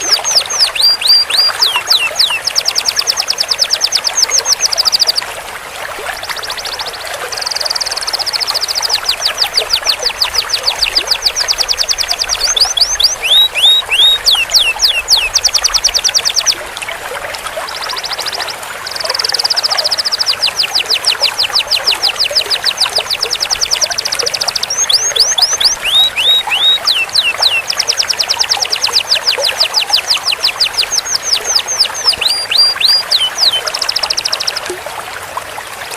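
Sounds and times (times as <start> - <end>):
canary singing trills: 0.0 - 5.3, 6.1 - 16.7, 17.6 - 34.7.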